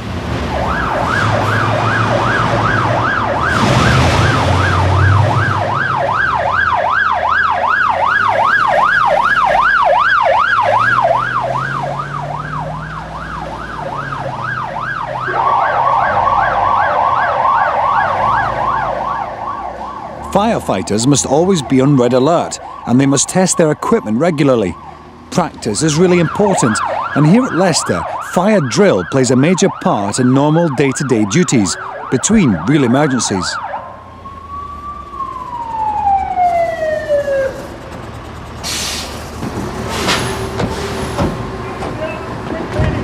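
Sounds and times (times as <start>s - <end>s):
fire engine siren: 0.0s - 43.0s.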